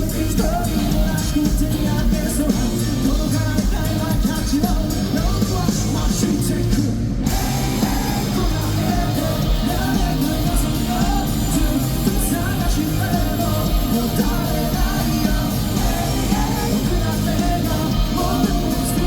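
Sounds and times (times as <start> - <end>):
man singing: 0.0 - 19.0
rock band playing live: 0.0 - 19.0.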